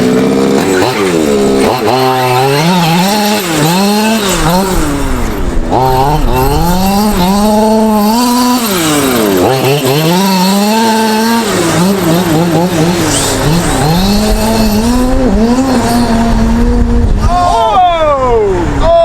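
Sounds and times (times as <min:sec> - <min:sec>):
small two-stroke engine revving: 0:00.0 - 0:17.4.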